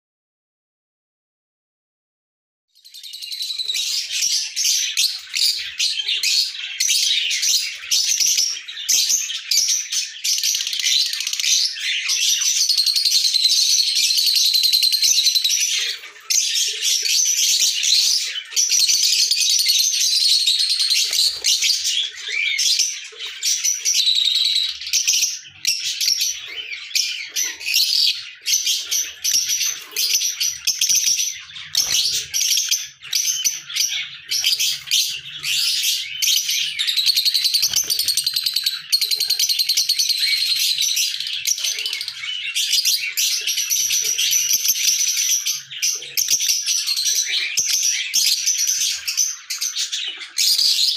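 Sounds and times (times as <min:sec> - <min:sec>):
lovebirds chattering: 0:03.0 - 0:50.9.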